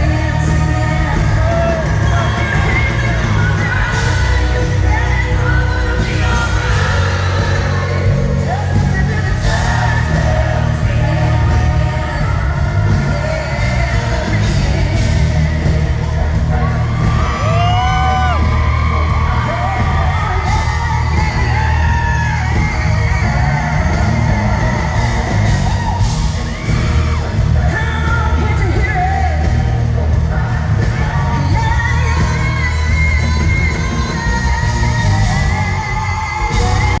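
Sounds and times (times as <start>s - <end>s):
audience yelling and whooping: 0.0s - 37.0s
live country-rock band: 0.0s - 37.0s
woman singing: 0.0s - 37.0s.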